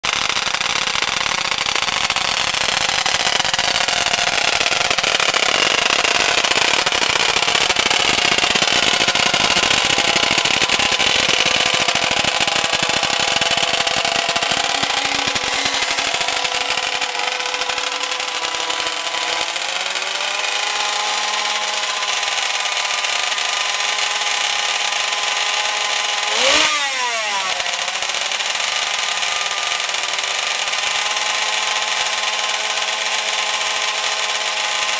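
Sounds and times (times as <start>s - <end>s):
racing motorcycle engine running: 0.0s - 34.9s.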